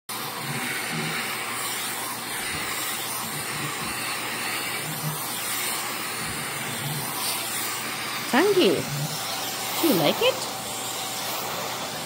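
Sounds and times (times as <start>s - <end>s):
vacuum cleaner running: 0.1s - 12.0s.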